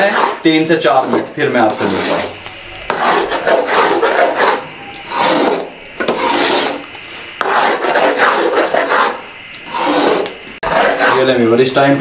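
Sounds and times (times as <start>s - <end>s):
metal ladle scraping a pot: 0.0s - 11.4s.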